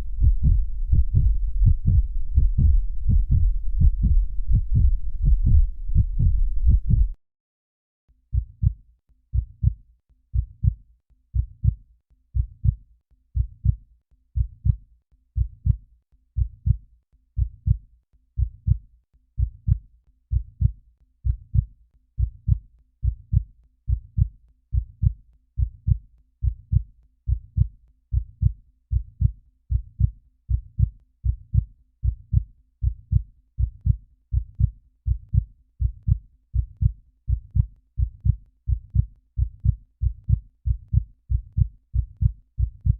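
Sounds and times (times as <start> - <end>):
heartbeat thumps: 0.0 - 7.2, 8.3 - 8.8, 9.4 - 9.8, 10.4 - 10.8, 12.4 - 12.8, 13.4 - 13.8, 14.4 - 14.8, 15.4 - 15.8, 16.4 - 16.8, 17.4 - 17.8, 19.4 - 42.9.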